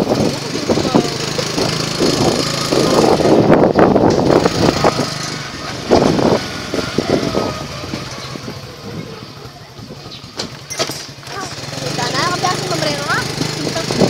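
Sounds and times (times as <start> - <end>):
motor scooter engine: 0.0 - 14.0
road noise with buffeting: 0.0 - 14.0.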